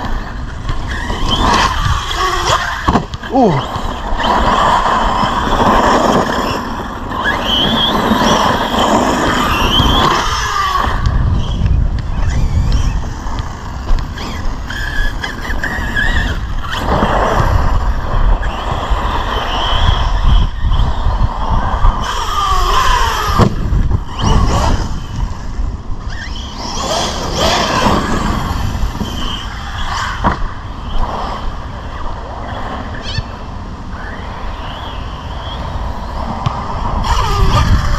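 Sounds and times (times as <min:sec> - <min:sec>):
electric motor whining: 0:00.0 - 0:21.0, 0:21.6 - 0:30.2, 0:36.9 - 0:37.9.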